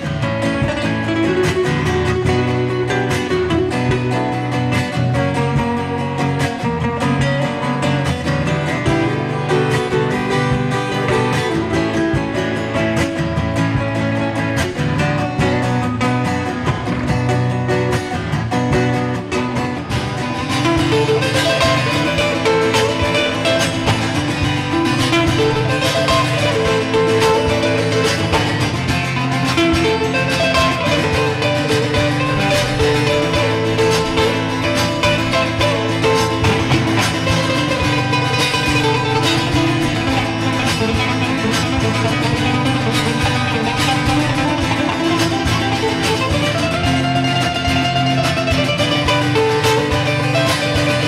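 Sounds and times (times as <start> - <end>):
acoustic guitars strummed and picked: 0.0 - 51.0.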